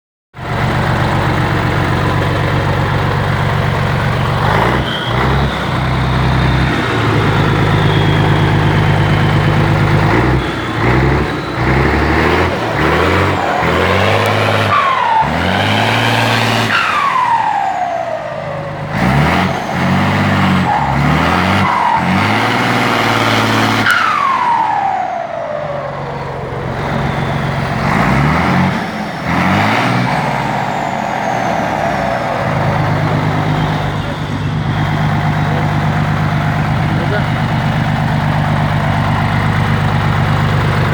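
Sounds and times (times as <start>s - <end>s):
diesel bus engine revving: 0.4s - 40.9s
turbo whistle: 4.5s - 37.3s.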